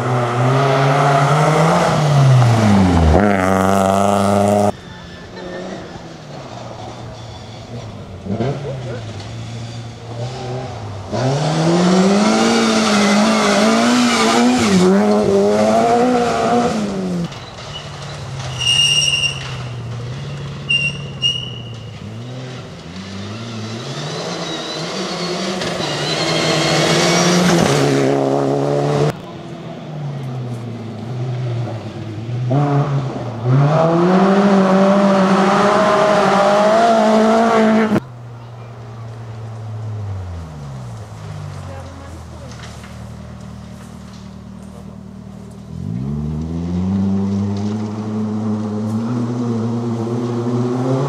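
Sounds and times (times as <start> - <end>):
rally car engines revving: 0.0 - 51.0.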